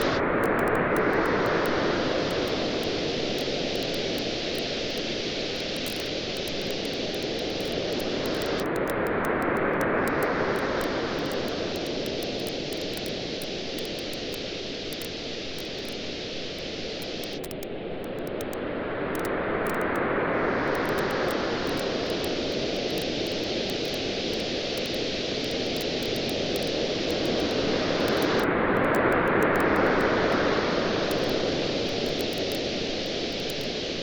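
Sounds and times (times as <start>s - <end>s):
campfire crackling: 0.0s - 18.6s, 20.7s - 33.8s
waves washing onto beach: 0.0s - 34.0s.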